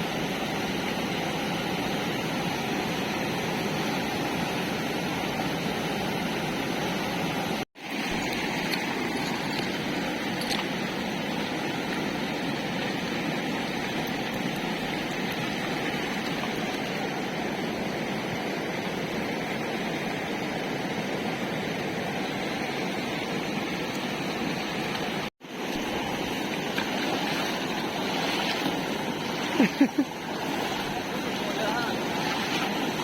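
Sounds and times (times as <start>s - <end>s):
flooded river rushing: 0.0s - 33.0s.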